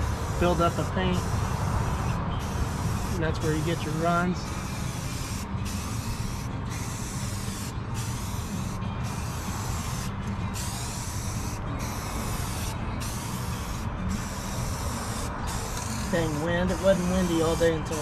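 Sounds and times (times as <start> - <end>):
spray paint can hissing: 0.0 - 18.0.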